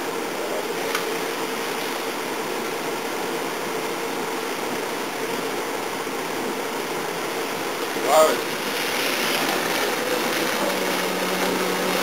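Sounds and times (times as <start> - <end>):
blower fan rushing air: 0.0 - 12.0
steady hum: 0.0 - 12.0.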